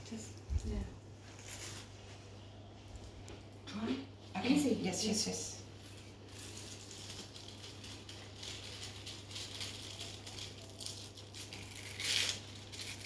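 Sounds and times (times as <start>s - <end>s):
pastry sheets rustling: 0.0s - 3.6s, 4.3s - 13.0s.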